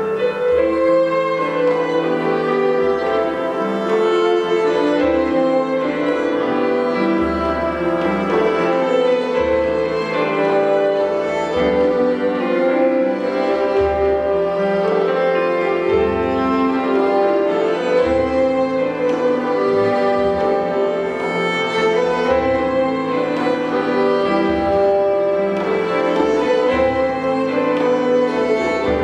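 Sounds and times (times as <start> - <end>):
violins playing: 0.0 - 29.0.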